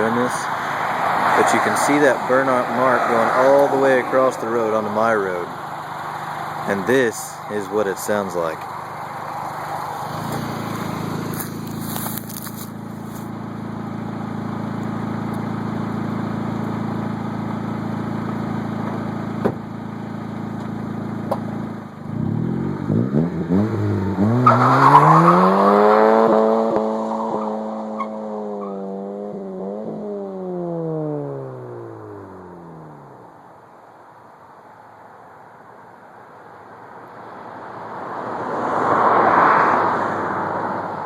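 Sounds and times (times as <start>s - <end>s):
car engine revving: 0.0s - 33.4s
tire spinning: 0.0s - 33.4s.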